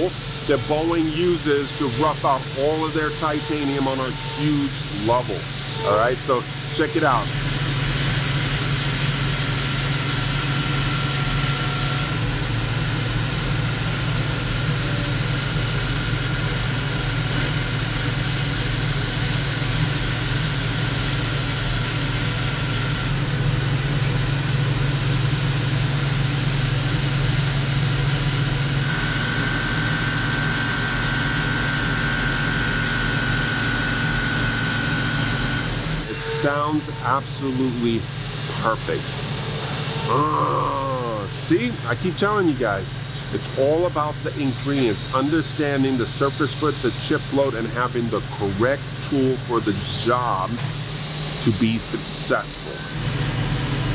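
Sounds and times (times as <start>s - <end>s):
high cutting whine: 0.0s - 53.9s.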